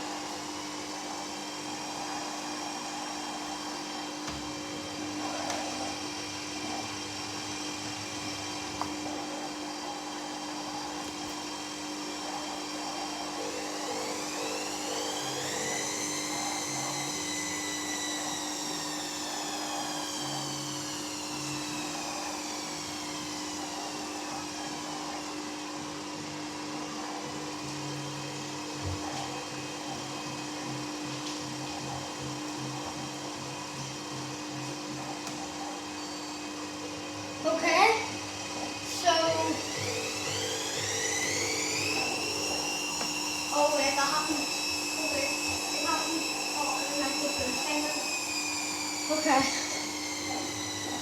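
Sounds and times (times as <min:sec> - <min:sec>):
motor whine: 0:00.0 - 0:51.0.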